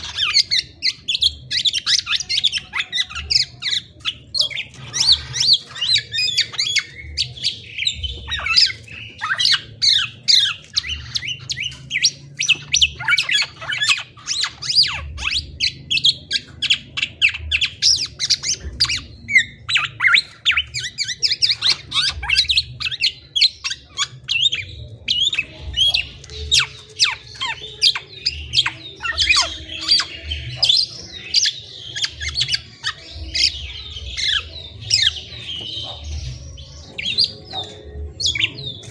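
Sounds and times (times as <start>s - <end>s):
oriole singing rapid chirps: 0.0s - 38.9s.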